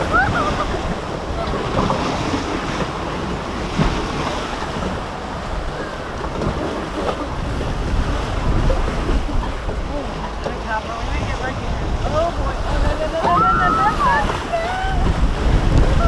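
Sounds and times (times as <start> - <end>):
rushing river rapids: 0.0 - 16.0
wind buffeting microphone: 0.0 - 16.0.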